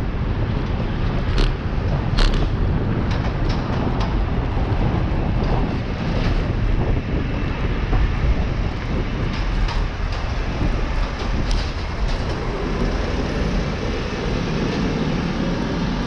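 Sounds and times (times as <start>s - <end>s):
traffic rush: 0.0s - 16.0s
wind rumble on microphone: 0.0s - 16.0s.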